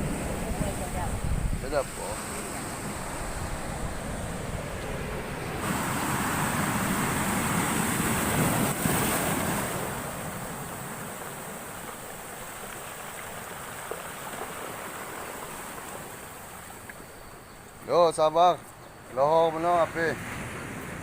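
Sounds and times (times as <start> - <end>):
storm surf washing ashore: 0.0 - 21.0.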